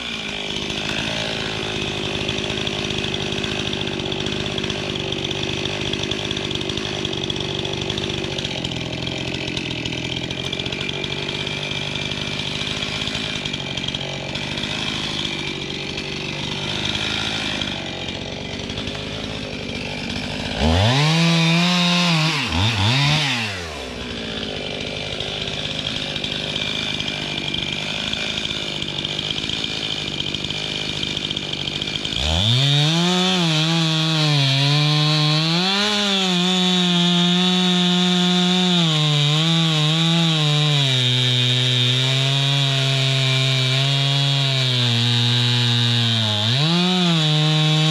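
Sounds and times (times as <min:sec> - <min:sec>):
chainsaw running and revving: 0:00.0 - 0:47.9.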